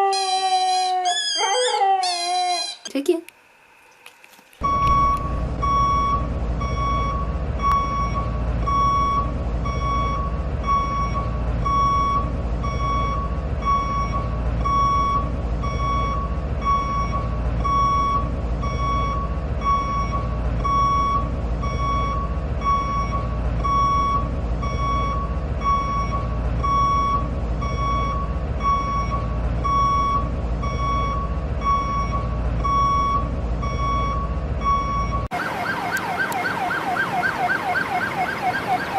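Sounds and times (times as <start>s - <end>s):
truck reversing alarm beeps: 0.0s - 2.8s, 4.6s - 38.9s
engine rumble: 3.9s - 38.9s.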